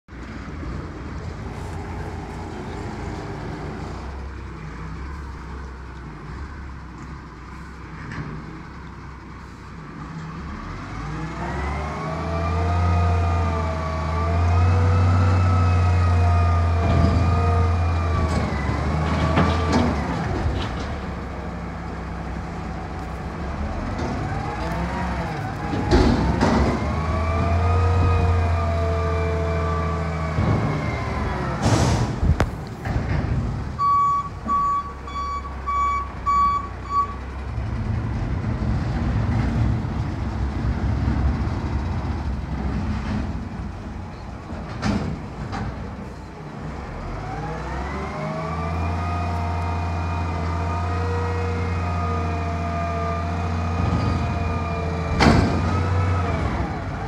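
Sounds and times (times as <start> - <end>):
diesel engine running: 0.1 - 57.0.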